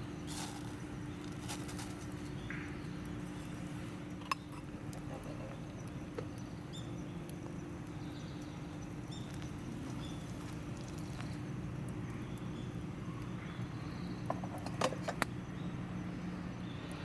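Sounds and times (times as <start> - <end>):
fire popping: 0.0 - 15.5
campfire crackling: 0.0 - 17.0.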